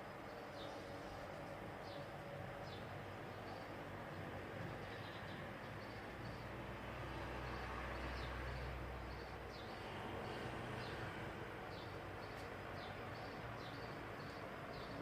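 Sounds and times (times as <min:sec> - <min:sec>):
ceiling fan whooshing and humming: 0:00.0 - 0:15.0.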